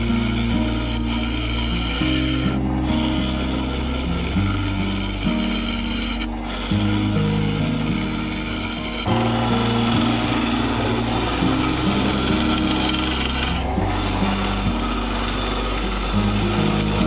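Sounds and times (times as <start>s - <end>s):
gouge cutting wood on lathe: 0.0s - 17.0s
low background music: 0.0s - 17.0s.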